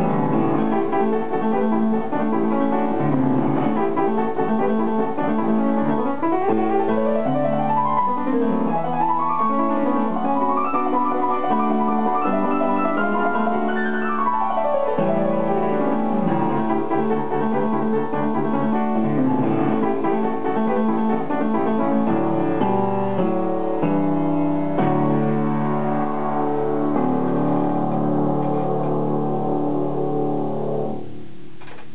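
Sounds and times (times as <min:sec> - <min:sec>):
upright piano playing: 0:00.0 - 0:31.5.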